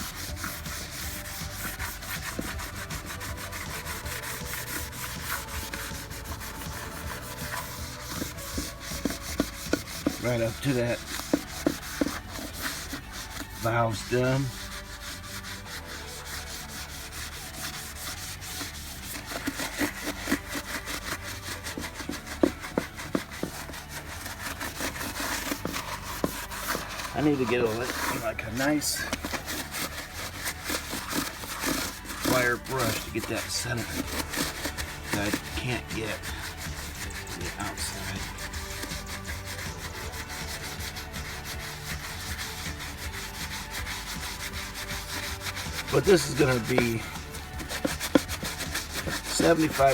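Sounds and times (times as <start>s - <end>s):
scouring pad scrubbing metal rim: 0.0s - 49.9s.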